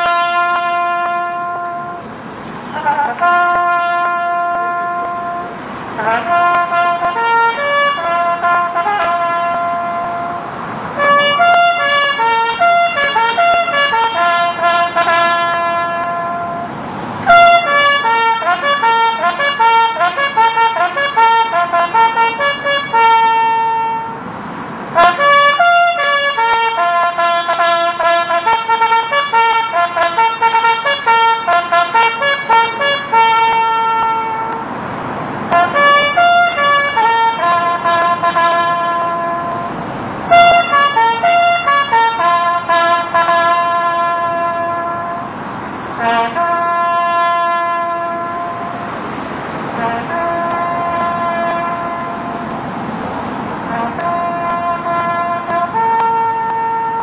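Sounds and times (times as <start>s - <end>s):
bugle playing: 0.0s - 2.1s, 2.7s - 24.2s, 24.9s - 34.7s, 35.5s - 45.3s, 46.0s - 48.8s, 49.8s - 52.6s, 53.6s - 57.0s.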